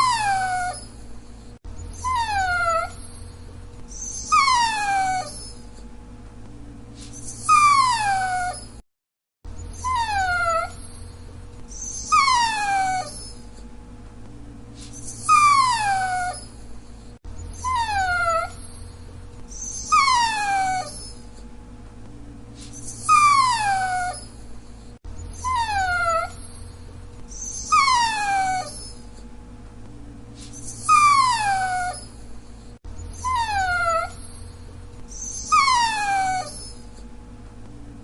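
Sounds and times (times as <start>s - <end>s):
dog whining: 0.0s - 5.9s, 7.0s - 8.8s, 9.6s - 13.7s, 14.8s - 21.5s, 22.6s - 29.3s, 30.4s - 37.1s.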